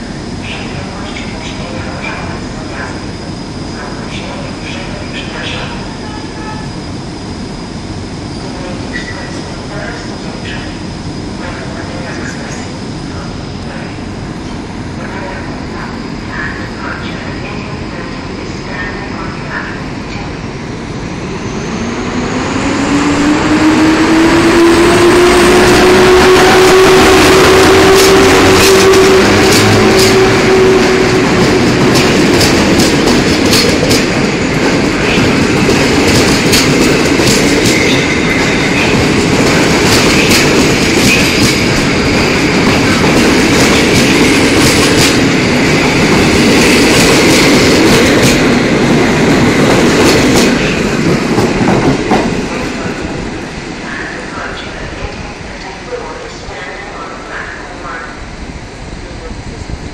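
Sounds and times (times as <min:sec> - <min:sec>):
electric locomotive whine: 0:00.0 - 0:59.9.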